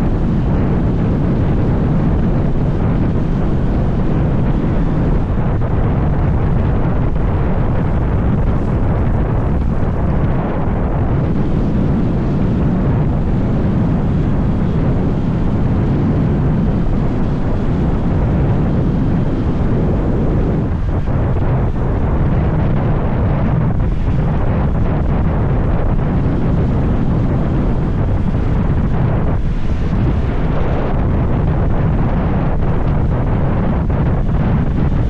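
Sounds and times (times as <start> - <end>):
road and engine rumble: 0.0 - 35.0
wind buffeting microphone: 0.0 - 35.0.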